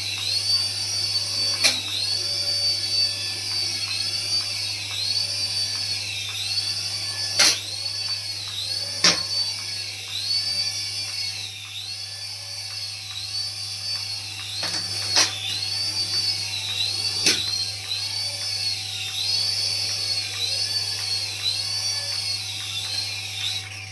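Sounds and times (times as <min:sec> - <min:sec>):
toy high warbling whine: 0:00.0 - 0:23.9.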